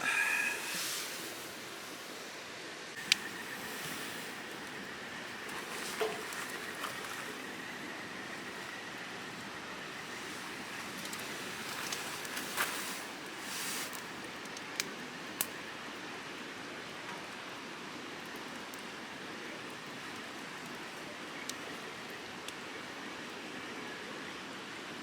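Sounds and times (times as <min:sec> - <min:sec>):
steady rushing hiss: 0:00.0 - 0:24.6
campfire crackling and popping: 0:03.0 - 0:23.4.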